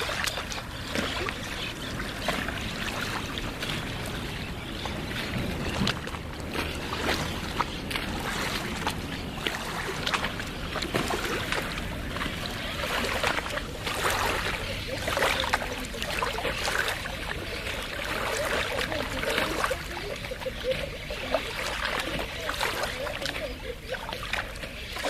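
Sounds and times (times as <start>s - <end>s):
small waves lapping: 0.0s - 25.0s
water splashing and slapping: 0.0s - 25.0s.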